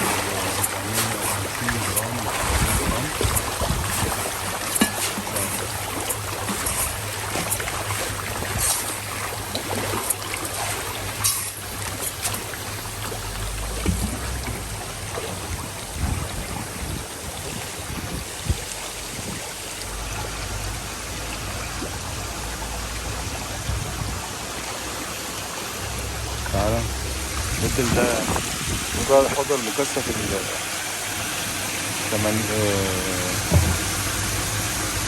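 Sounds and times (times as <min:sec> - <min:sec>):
running and splashing water: 0:00.0 - 0:35.0.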